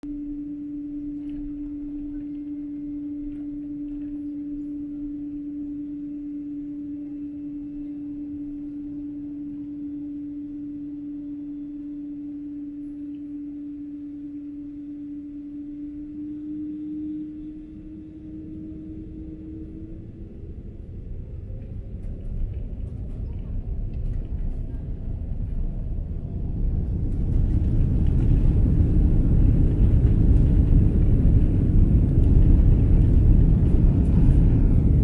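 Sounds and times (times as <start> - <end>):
airliner cabin hum: 0.0 - 35.0
low rumble: 0.0 - 35.0.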